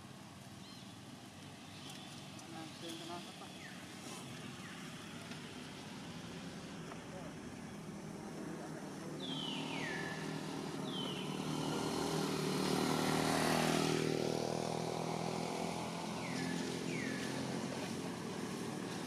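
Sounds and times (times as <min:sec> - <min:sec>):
vehicle passing by: 0:02.6 - 0:19.0.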